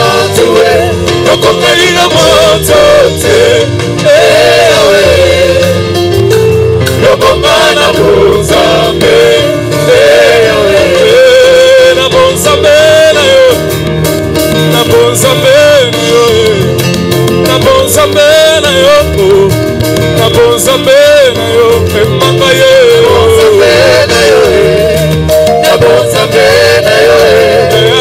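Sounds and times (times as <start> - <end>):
group singing gospel: 0.0 - 13.8, 14.6 - 16.8, 17.4 - 28.0
live band playing: 0.0 - 28.0.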